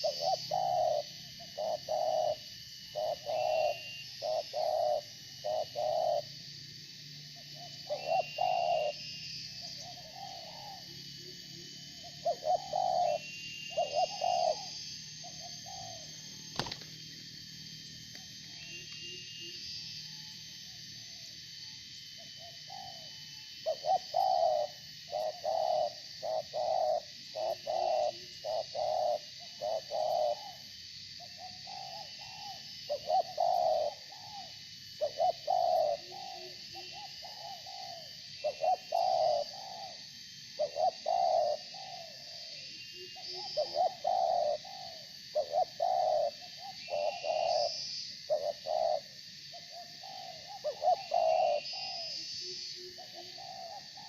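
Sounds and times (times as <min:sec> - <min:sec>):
doves cooing: 0:00.0 - 0:06.3, 0:07.4 - 0:09.0, 0:09.6 - 0:16.9, 0:22.2 - 0:54.0
small birds chirping faintly: 0:00.0 - 0:54.0.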